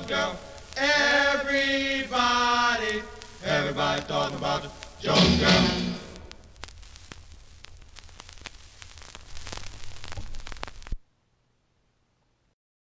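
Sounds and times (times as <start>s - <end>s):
steady hiss: 0.0s - 12.6s
vinyl record crackles and pops: 0.0s - 12.6s.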